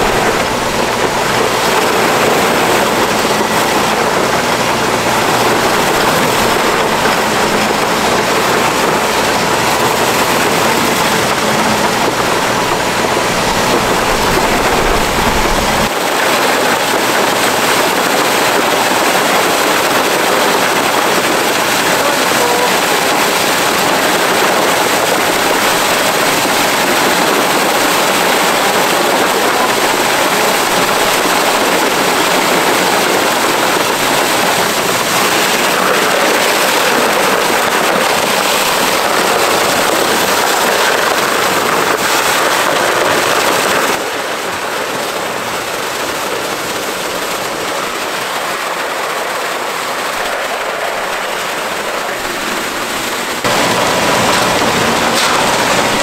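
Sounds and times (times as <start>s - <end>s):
concrete pouring: 0.0s - 56.0s
concrete pump truck running: 0.0s - 56.0s.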